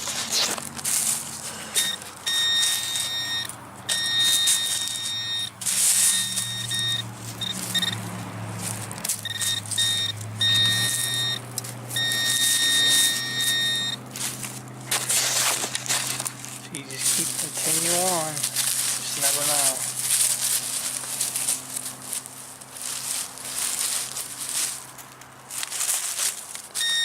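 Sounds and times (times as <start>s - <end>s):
digging in soil: 0.0s - 27.0s
metal detector buzzing: 0.8s - 24.8s, 26.7s - 27.0s.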